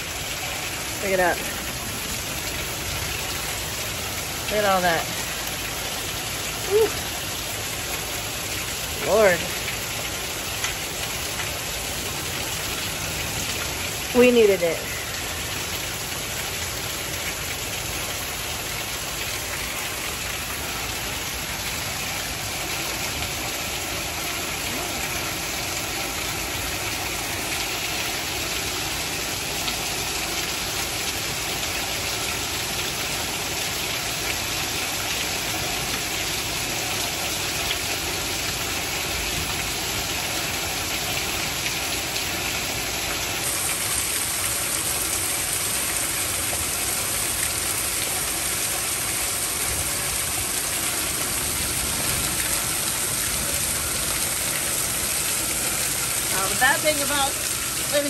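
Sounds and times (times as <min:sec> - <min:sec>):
heavy rain pouring: 0:00.0 - 0:58.0
water streaming off roof edge: 0:00.0 - 0:58.0.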